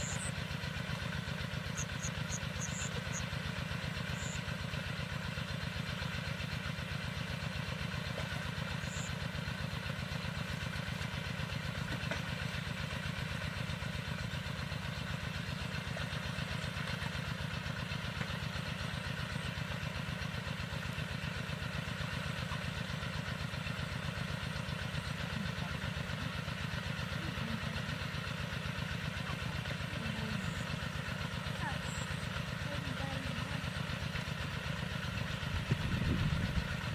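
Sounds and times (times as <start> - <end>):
small engine idling: 0.0 - 36.9.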